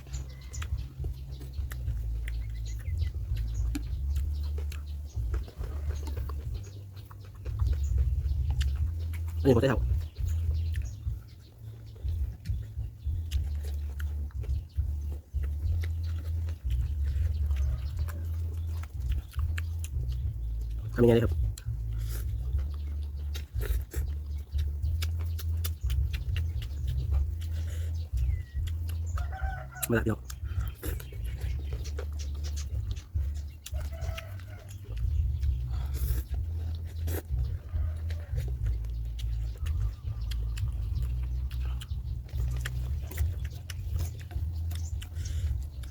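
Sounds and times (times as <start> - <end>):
hen clucking: 0.0 - 45.9
low rumble: 0.0 - 45.9
man chewing noodles: 0.0 - 45.9.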